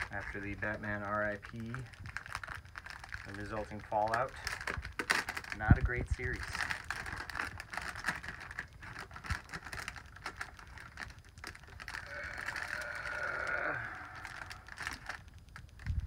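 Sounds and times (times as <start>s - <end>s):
plastic tearing: 0.0s - 16.0s
plastic wrapping crinkling: 0.0s - 16.0s.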